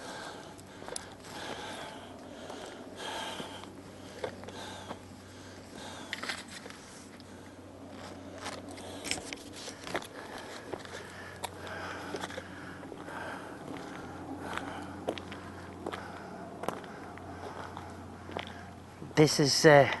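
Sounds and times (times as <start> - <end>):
rustles and clicks of walking: 0.0 - 18.8
low steady hum: 0.0 - 20.0.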